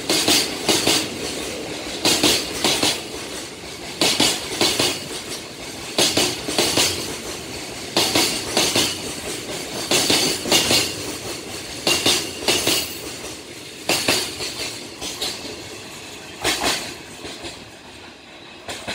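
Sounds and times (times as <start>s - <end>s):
train rolling rumble: 0.0s - 18.9s.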